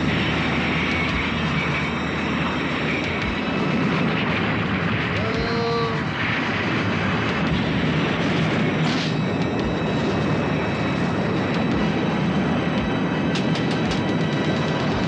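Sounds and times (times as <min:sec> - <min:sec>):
faint high whine: 0:00.0 - 0:13.4
spaceship rumbling roar: 0:00.0 - 0:13.4.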